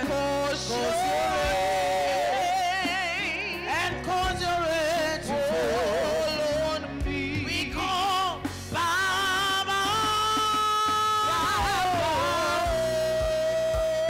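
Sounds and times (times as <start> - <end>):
electronic keyboard accompaniment: 0.0 - 14.0
person singing with vibrato: 0.0 - 14.0.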